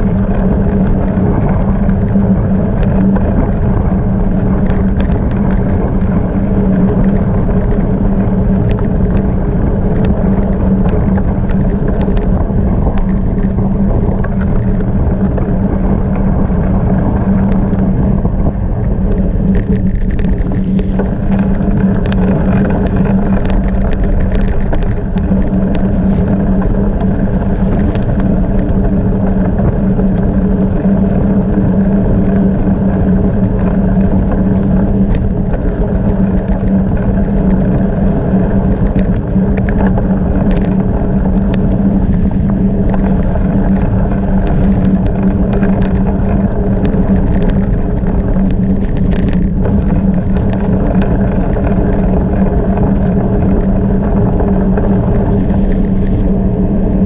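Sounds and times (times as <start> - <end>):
bike tyre rumble on gravel: 0.0 - 57.0
constant low hum: 0.0 - 57.0
small clicks and rattles: 0.0 - 57.0
wind rushing over microphone: 0.0 - 57.0.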